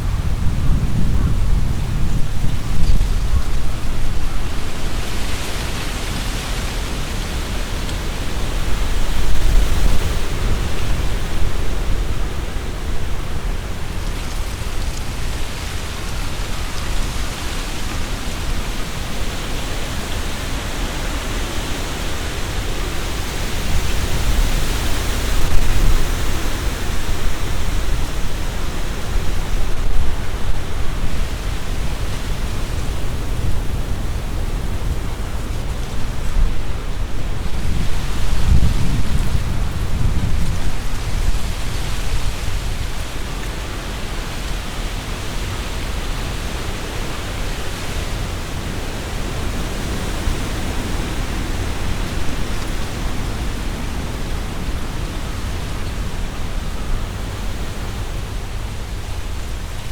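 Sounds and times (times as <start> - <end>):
leaves rustling: 0.0 - 59.9
strong wind gusting through trees: 0.0 - 59.9.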